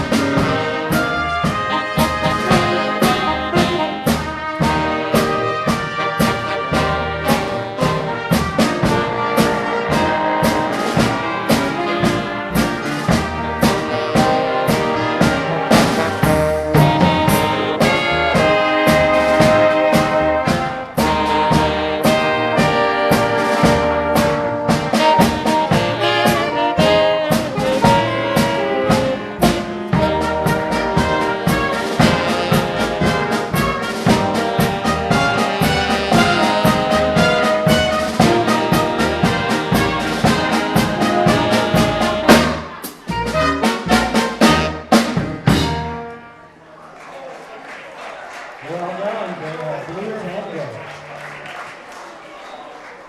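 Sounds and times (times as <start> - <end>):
steady drum beat: 0.0 - 46.1
trumpets and trombones melody: 0.0 - 46.6
big band playing swing: 0.0 - 53.0.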